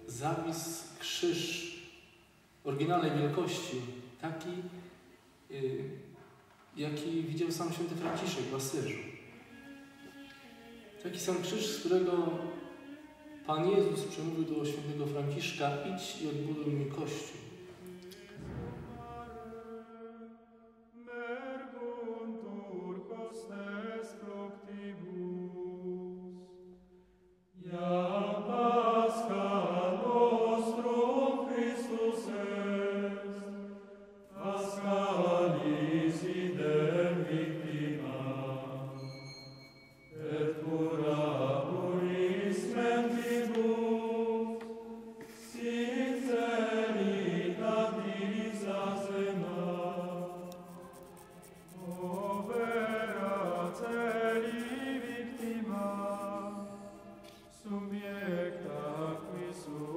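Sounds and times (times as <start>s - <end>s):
slow chanted vocal music: 0.0s - 59.9s.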